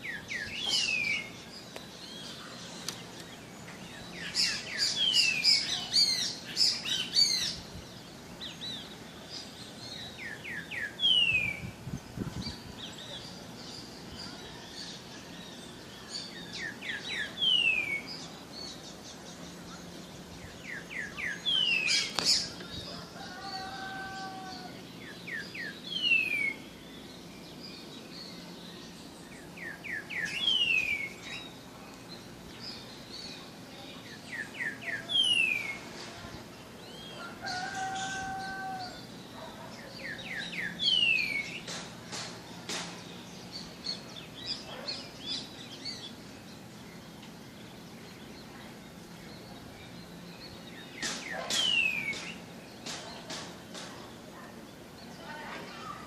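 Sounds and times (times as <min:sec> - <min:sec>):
other birds calling: 0:00.0 - 0:56.0
songbird singing: 0:00.0 - 0:56.0.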